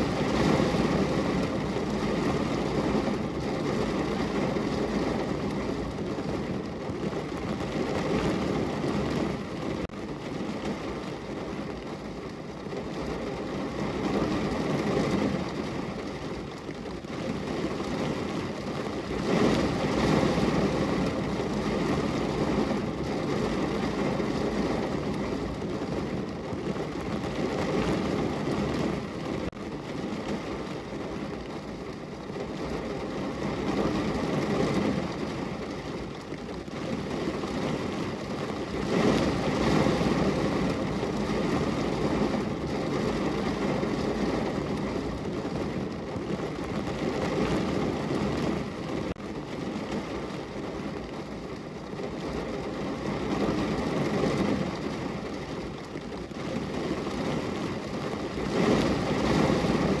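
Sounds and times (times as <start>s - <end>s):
rain against a window: 0.0s - 60.0s.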